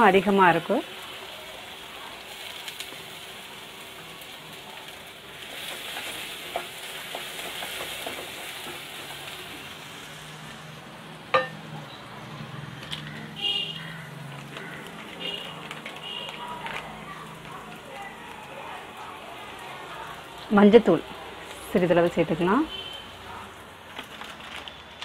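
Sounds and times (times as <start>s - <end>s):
shallots sizzling in oil: 0.0s - 12.5s, 13.1s - 24.1s.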